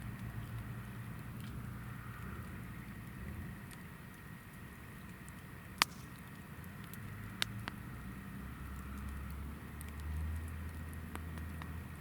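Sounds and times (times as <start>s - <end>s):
campfire flame rumble: 0.0s - 12.0s
faint fire crackle: 0.0s - 12.0s.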